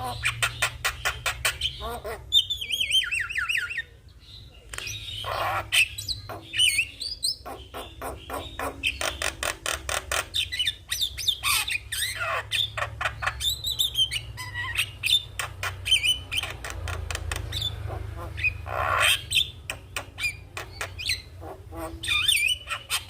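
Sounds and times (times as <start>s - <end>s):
bird singing clicks and squawks: 0.0s - 3.8s, 4.6s - 17.8s, 18.4s - 23.0s.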